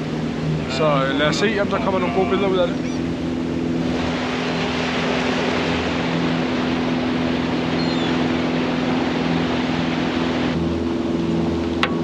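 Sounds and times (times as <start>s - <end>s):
motorboat engine running: 0.0s - 12.0s
water rushing: 0.0s - 12.0s.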